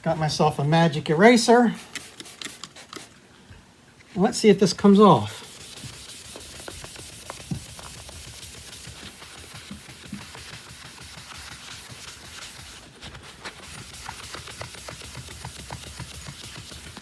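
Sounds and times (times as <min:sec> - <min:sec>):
eraser scrubbing plastic: 0:01.7 - 0:03.2, 0:04.6 - 0:17.0.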